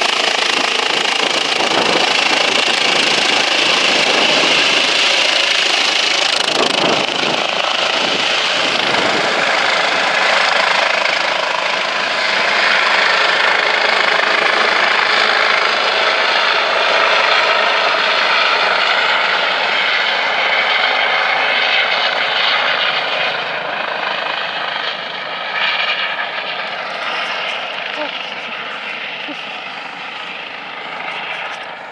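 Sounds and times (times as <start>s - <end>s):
helicopter rotor and turbine: 0.0s - 31.9s.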